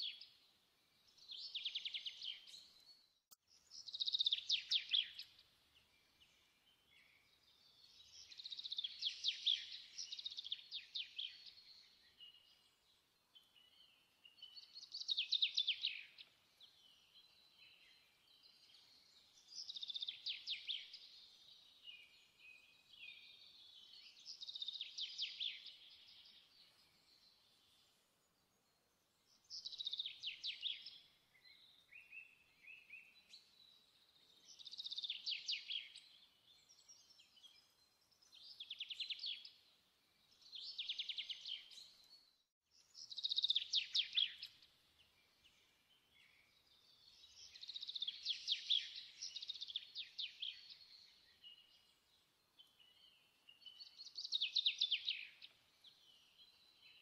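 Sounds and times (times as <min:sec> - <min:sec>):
small bird singing trills: 0:00.0 - 0:57.0.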